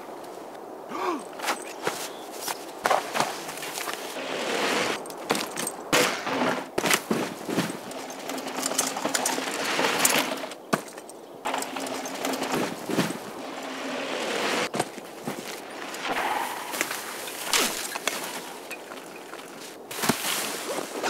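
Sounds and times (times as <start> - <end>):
bike knocking and rattling: 1.2 - 20.5
bike tyres crunching on dirt: 1.2 - 21.0.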